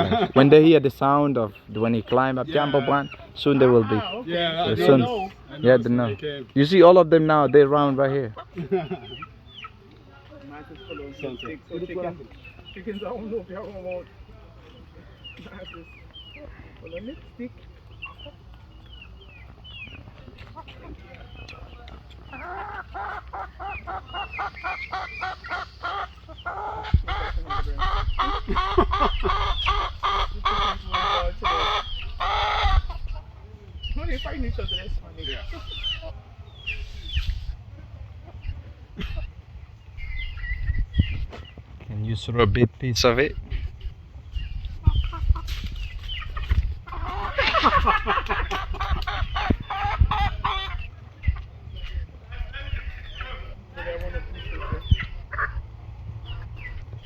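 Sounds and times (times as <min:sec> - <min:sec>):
chickens clucking and squawking: 0:00.0 - 0:57.0.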